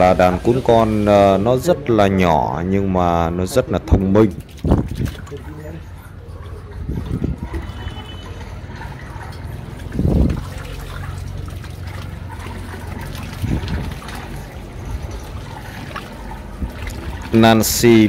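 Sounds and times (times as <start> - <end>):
water sloshing and trickling: 3.5 - 18.0.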